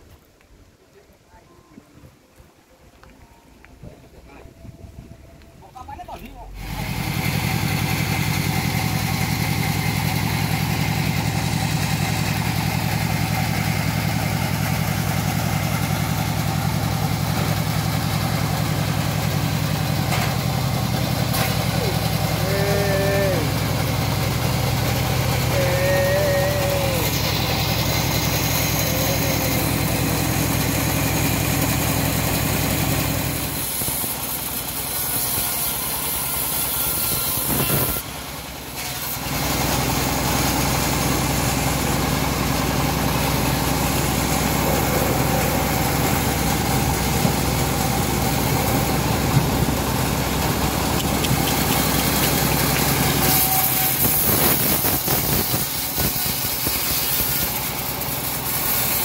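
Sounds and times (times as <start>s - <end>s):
bandsaw cutting logs: 6.5s - 59.0s.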